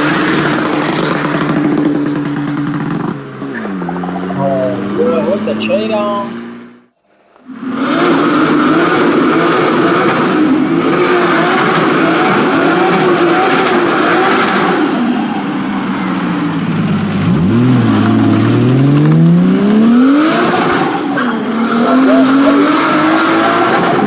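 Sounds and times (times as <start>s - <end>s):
car accelerating: 0.0s - 24.0s
modified car engine revving: 0.0s - 24.0s.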